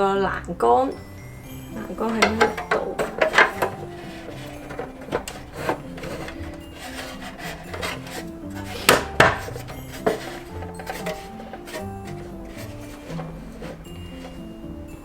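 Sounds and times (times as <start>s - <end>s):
background music with steady beat: 0.0s - 15.0s
plastic parts clicking: 2.0s - 14.4s.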